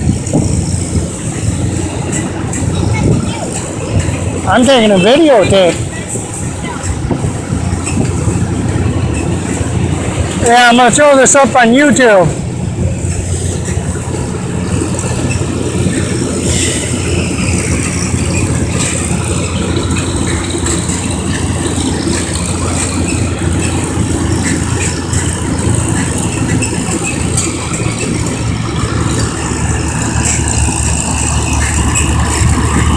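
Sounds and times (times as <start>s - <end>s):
metal rattling: 0.0s - 32.9s
tractor engine running: 0.0s - 32.9s.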